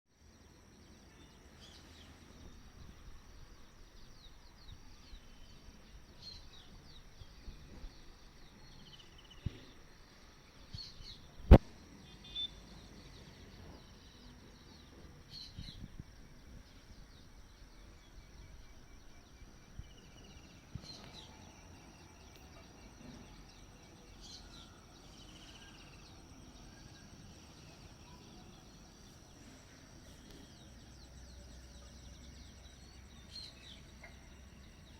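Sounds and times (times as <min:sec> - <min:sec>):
faint background noise: 0:00.1 - 0:34.9.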